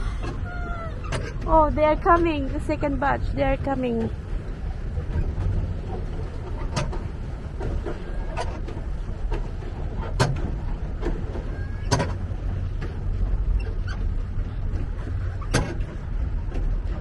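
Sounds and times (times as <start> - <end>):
rumble of wind and water: 0.0 - 17.0.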